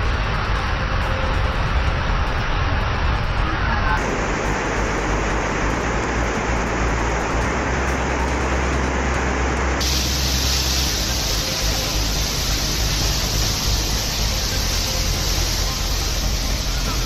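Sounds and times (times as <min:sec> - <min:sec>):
floodwater rushing: 0:00.0 - 0:17.0
low rumble: 0:00.0 - 0:17.0.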